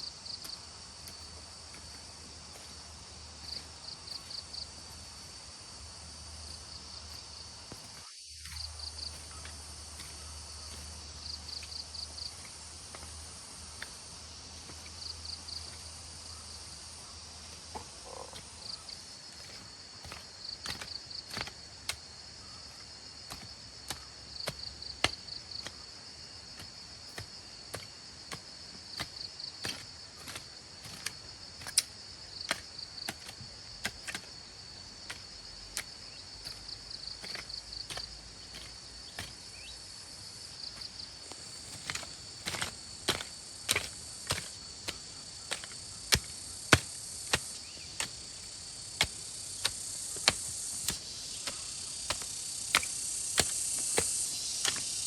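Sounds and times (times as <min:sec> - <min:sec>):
insects chirping: 0:00.0 - 0:55.0.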